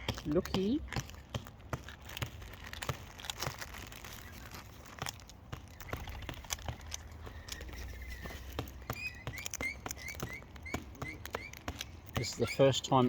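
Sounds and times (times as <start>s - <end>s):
parrot crunching food: 0.0s - 13.0s.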